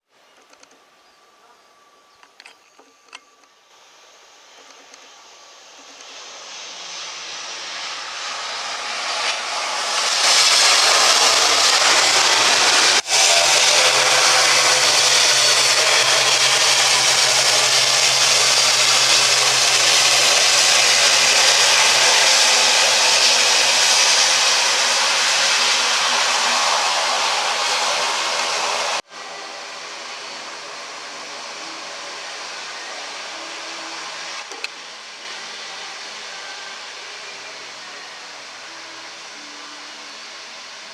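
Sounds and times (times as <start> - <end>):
turboprop engines running: 4.2 - 40.5.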